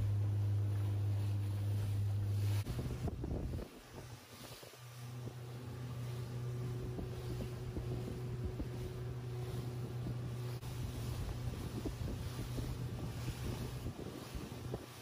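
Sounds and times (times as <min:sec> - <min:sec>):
ship engines humming: 0:00.0 - 0:15.0
wind buffeting microphone: 0:02.6 - 0:15.0.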